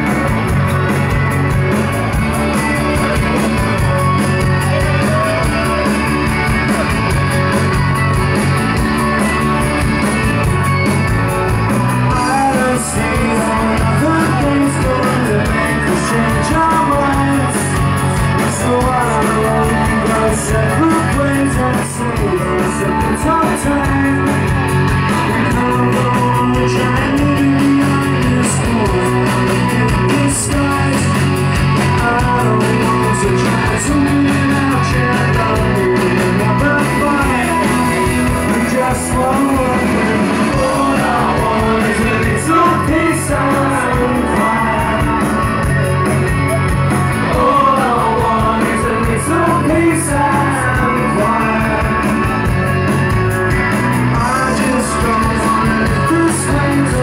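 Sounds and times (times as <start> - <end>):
rock band playing live: 0.0 - 57.0
person singing: 3.0 - 7.1, 12.1 - 52.8, 54.0 - 57.0.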